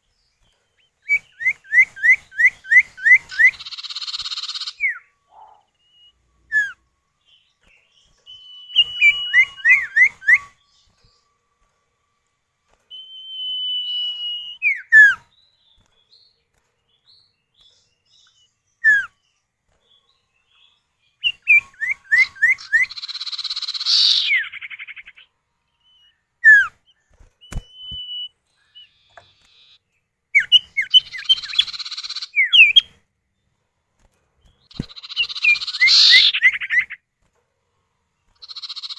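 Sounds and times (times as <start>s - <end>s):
birds calling back and forth: 0.0s - 38.9s.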